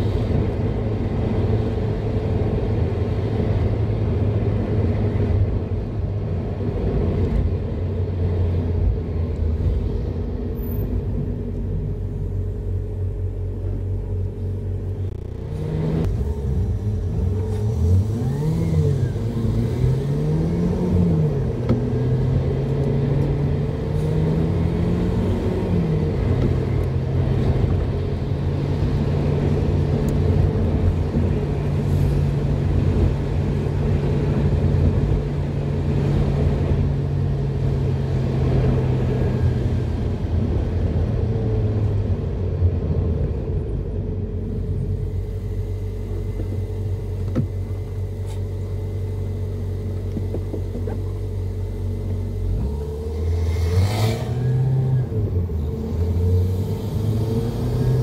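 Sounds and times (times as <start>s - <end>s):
car engine from inside cabin: 0.0s - 58.0s.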